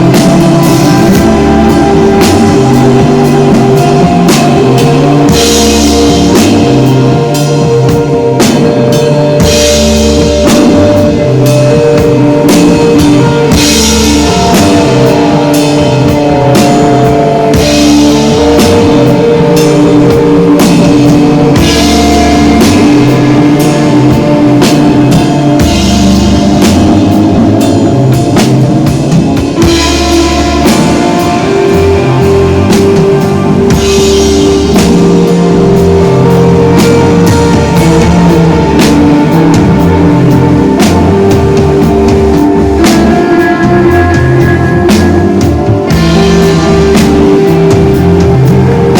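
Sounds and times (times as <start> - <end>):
bass line: 0.0 - 48.9
drum kit with cymbals: 0.0 - 48.9
electric guitar long notes: 0.0 - 48.9.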